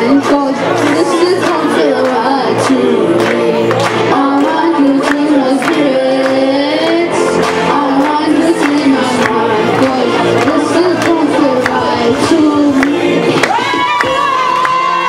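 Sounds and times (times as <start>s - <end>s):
backing music with steady beat: 0.0s - 15.0s
children singing: 0.0s - 15.0s.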